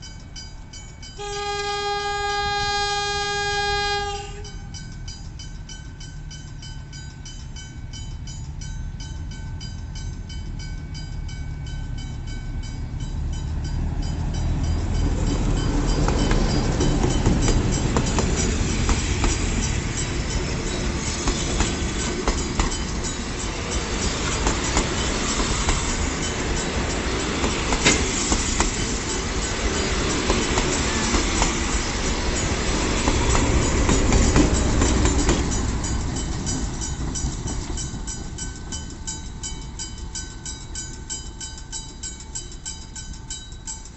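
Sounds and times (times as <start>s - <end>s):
train carriages rumbling and clacking: 0.0s - 43.9s.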